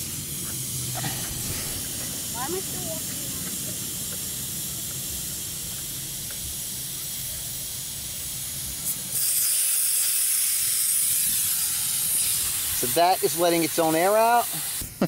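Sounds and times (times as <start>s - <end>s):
air hissing from tire valve: 0.0s - 15.0s.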